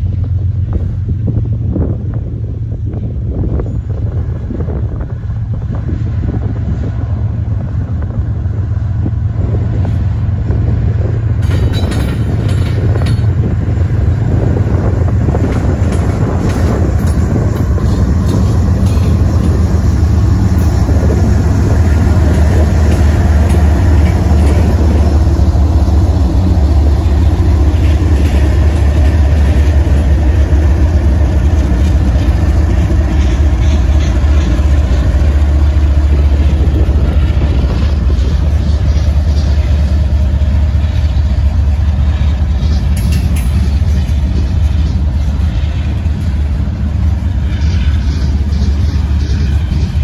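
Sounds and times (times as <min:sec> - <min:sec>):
diesel locomotive engines rumbling: 0:00.0 - 0:50.0.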